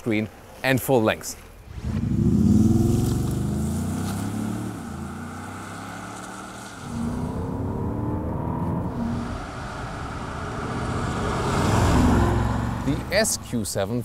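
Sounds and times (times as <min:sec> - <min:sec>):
diesel engine accelerating hard: 0:01.8 - 0:13.4.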